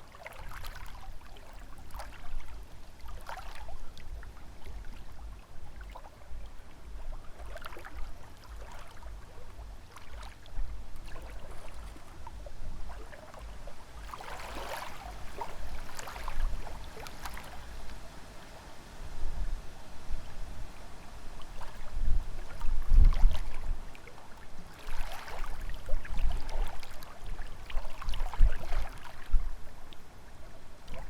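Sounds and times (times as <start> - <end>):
waves lapping at shore: 0.0 - 31.0
wind on microphone: 0.0 - 31.0.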